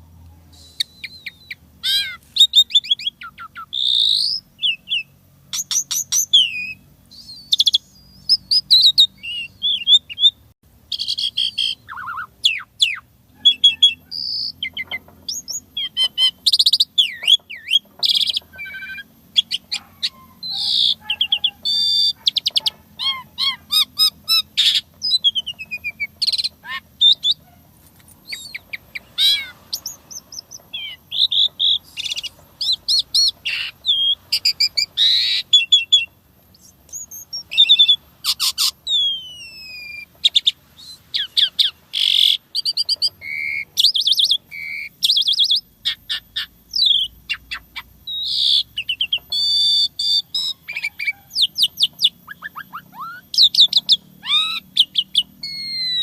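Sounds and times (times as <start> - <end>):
starling singing varied song: 0.0 - 56.0.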